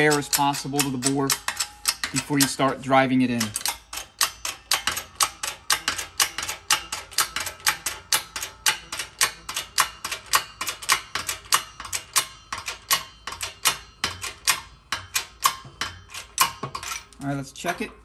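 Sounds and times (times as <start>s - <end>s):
sharp metallic clicks: 0.0s - 17.9s.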